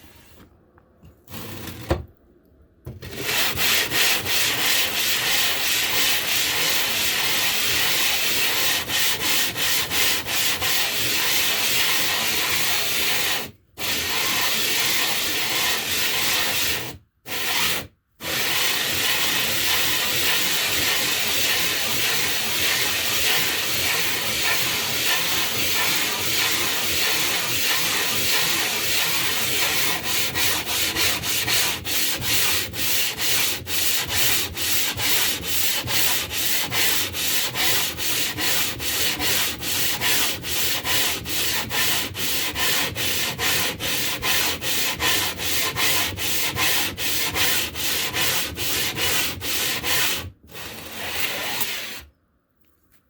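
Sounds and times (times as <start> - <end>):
stone scraping on abrasive surface: 1.3 - 1.9, 3.0 - 52.1.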